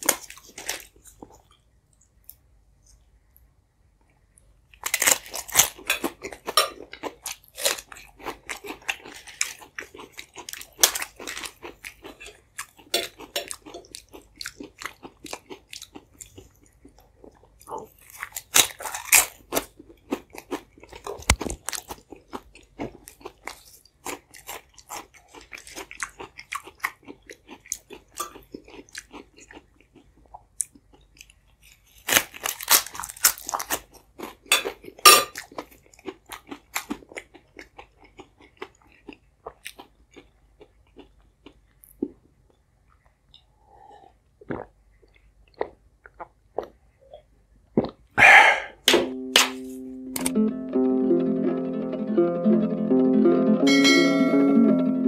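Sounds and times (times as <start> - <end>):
person chewing: 4.1 - 48.8.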